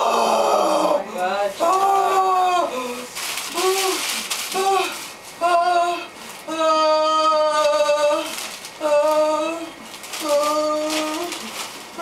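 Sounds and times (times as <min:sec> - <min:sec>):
woman moaning: 0:00.0 - 0:12.0.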